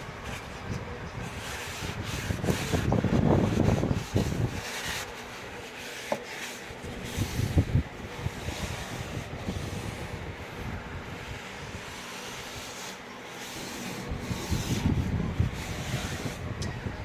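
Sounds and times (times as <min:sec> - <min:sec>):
wipe rubbing inside a case: 0:00.2 - 0:16.5.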